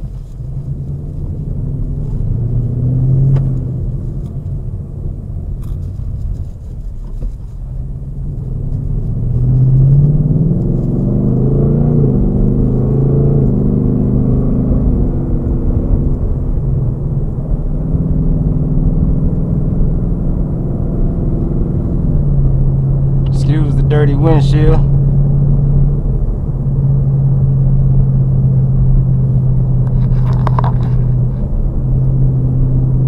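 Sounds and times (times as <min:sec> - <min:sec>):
car engine accelerating and upshifting: 0:00.0 - 0:33.0.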